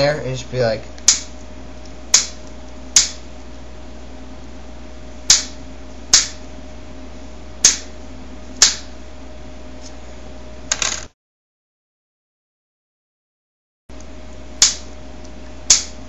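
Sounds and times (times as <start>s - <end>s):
faint steady hum: 0.0s - 11.1s, 13.9s - 16.0s.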